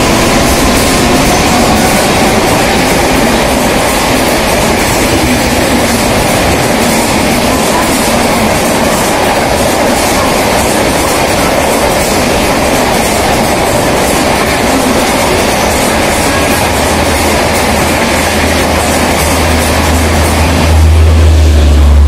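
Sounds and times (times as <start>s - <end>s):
train coaches rumbling past: 0.0s - 22.0s.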